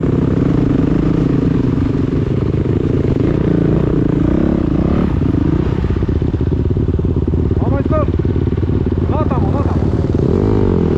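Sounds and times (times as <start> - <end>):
motocross bike engines revving: 0.0 - 10.9.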